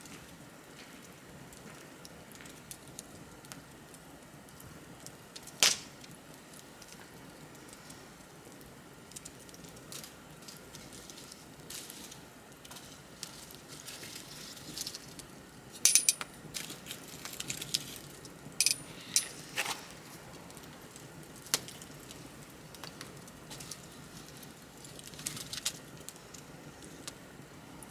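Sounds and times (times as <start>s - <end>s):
bonfire crackling: 0.1s - 27.5s.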